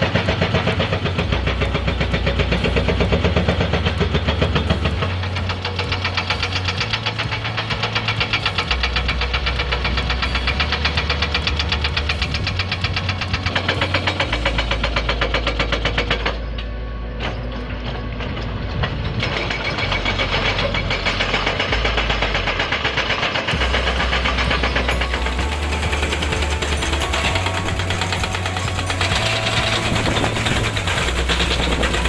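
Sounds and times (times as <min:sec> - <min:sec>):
hydraulic breaker hammering rock: 0:00.0 - 0:16.4, 0:19.1 - 0:32.0
excavator engine running: 0:00.0 - 0:32.0.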